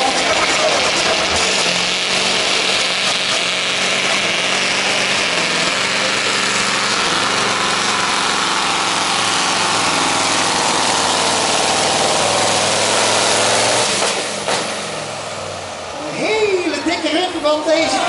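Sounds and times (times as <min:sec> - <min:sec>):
diesel engine under heavy load: 0:00.0 - 0:18.0.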